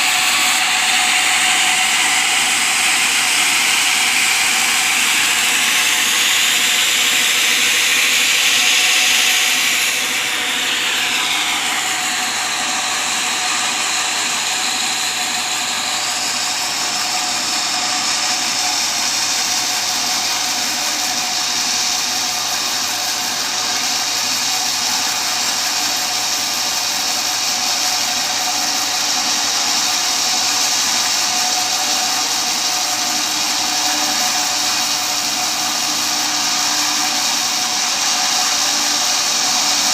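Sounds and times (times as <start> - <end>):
sawmill blade cutting timber: 0.0 - 39.9.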